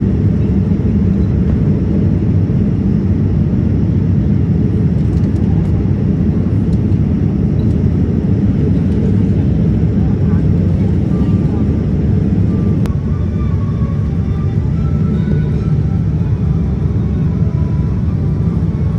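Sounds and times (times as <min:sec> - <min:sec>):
airplane engines droning: 0:00.0 - 0:18.9.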